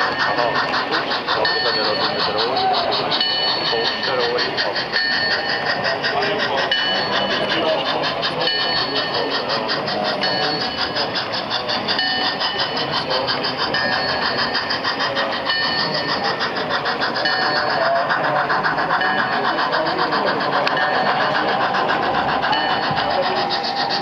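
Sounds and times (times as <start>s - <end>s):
model steam locomotive chuffing: 0.0s - 24.0s.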